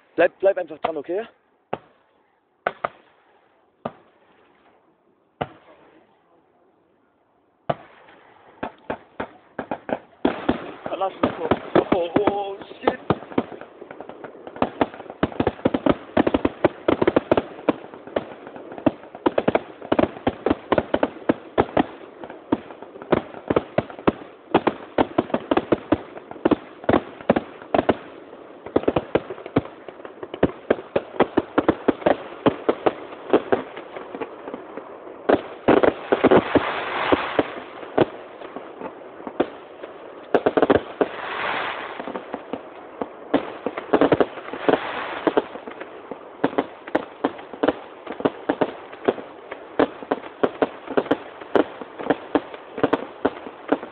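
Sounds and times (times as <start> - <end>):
fireworks bangs and crackles: 0.0 - 6.1, 7.6 - 53.9.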